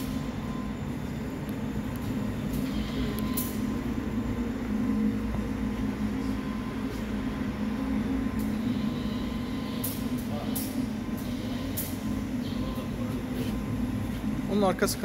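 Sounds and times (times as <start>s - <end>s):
machinery droning with hum: 0.0s - 15.0s.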